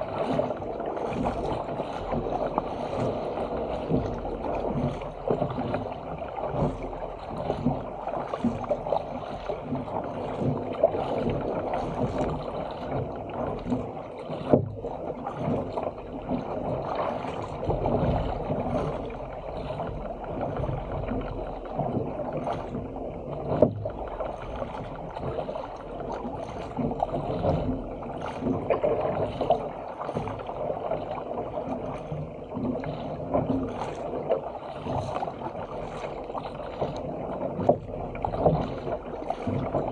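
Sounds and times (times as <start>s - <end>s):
water splashing along hull: 0.0s - 39.9s.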